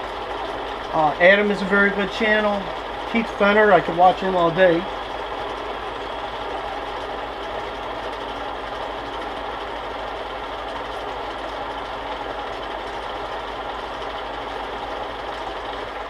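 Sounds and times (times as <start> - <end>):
metal lathe whirring: 0.0 - 16.0.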